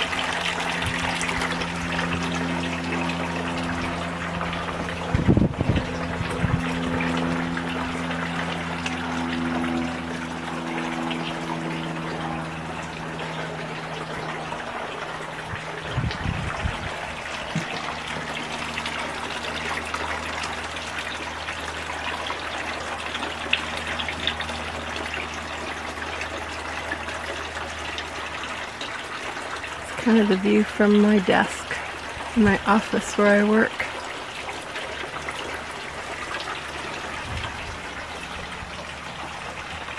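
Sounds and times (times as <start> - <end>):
low steady hum: 0.0 - 39.9
running water trickling: 0.0 - 39.9.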